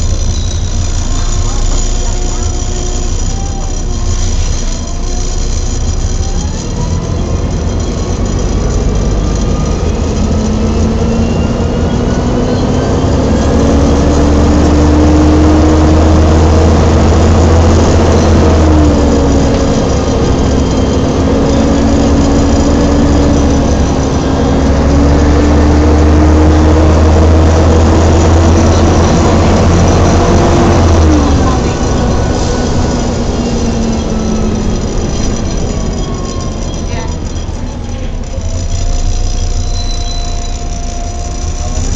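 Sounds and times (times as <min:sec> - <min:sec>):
bus gearbox whining: 0:00.0 - 0:41.9
diesel engine drone: 0:00.0 - 0:41.9.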